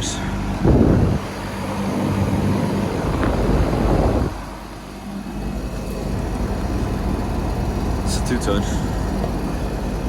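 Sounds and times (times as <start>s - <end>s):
condenser unit humming: 0.0s - 10.0s.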